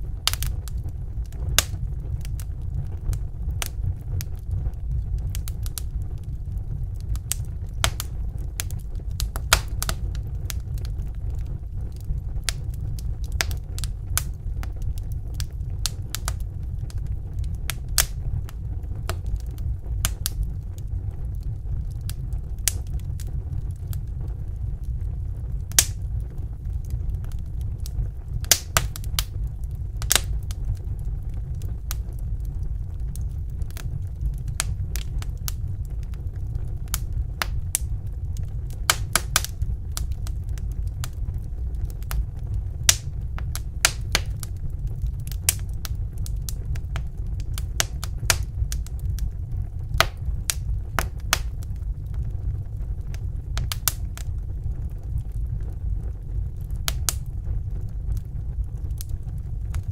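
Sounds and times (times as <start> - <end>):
fire crackling and popping: 0.0 - 59.9
low rumble of burning fire: 0.0 - 59.9.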